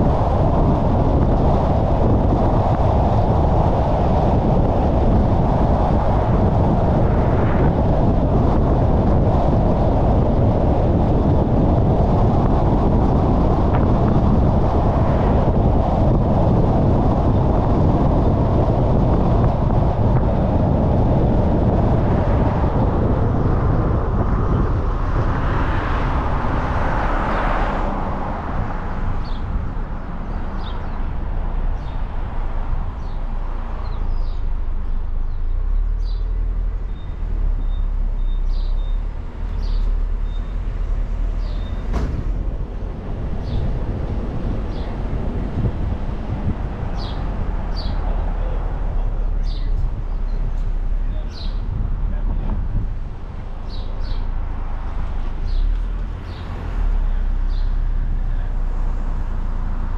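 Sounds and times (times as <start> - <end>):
tyre and wind noise: 0.0 - 59.9.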